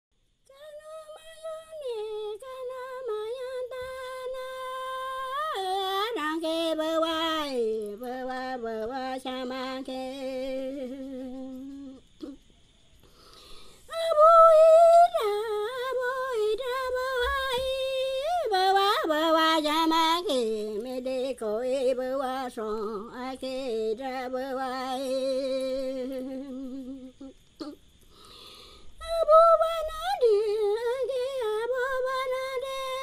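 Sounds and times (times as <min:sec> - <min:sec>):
woman singing unaccompanied: 0:00.4 - 0:12.6, 0:13.4 - 0:27.9, 0:28.9 - 0:33.0.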